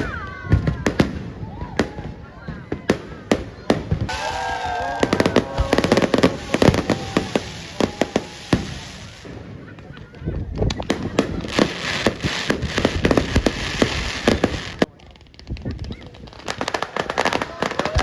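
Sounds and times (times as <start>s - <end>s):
firecrackers cracking and popping: 0.0s - 18.0s.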